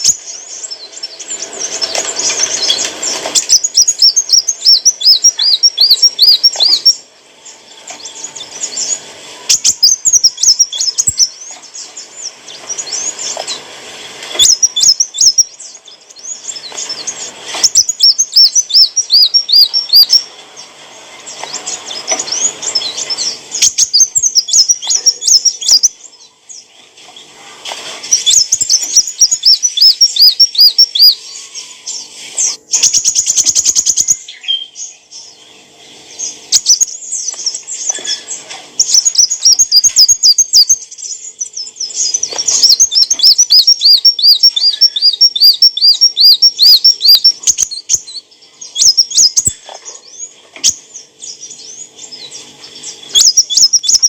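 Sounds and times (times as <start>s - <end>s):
sunbird chirping: 0.0s - 54.0s.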